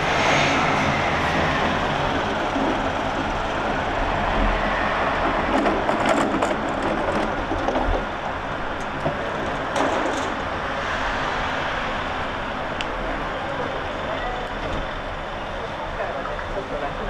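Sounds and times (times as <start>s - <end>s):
passing vehicle rumble: 0.0s - 17.0s.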